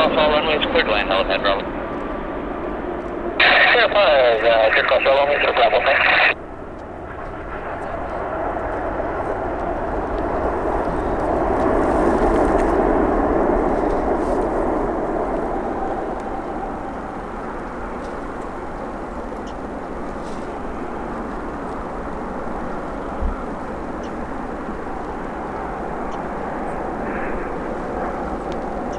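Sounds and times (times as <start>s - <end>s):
jet engine roar: 0.0s - 28.9s.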